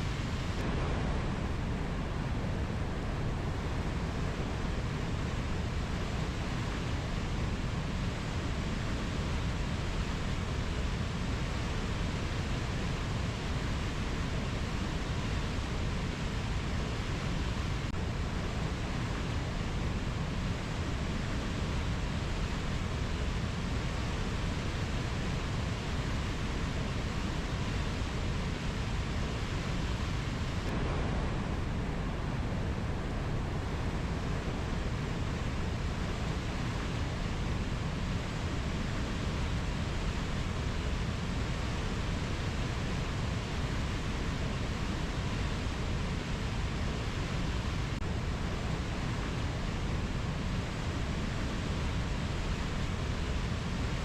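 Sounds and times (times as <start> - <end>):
steady rushing rainforest noise: 0.0 - 54.0.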